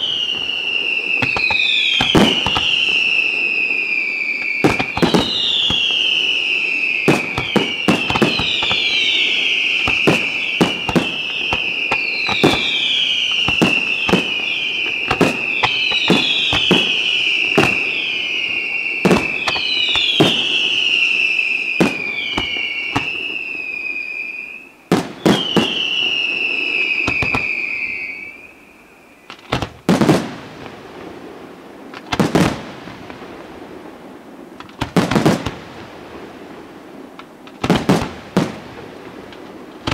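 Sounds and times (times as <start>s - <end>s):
loud firework bangs: 0.0s - 28.3s, 29.3s - 39.9s
whistling fireworks: 0.0s - 39.9s.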